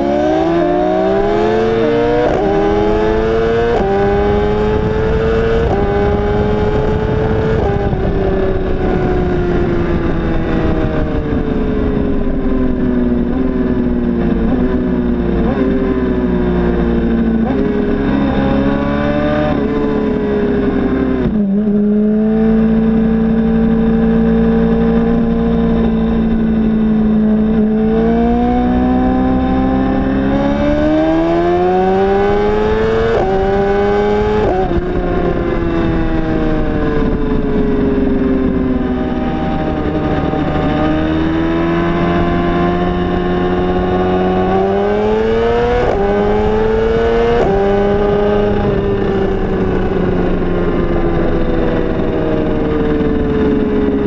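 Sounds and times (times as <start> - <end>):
motorcycle engine revving with upshifts: 0.0 - 54.0
wind rush: 0.0 - 54.0.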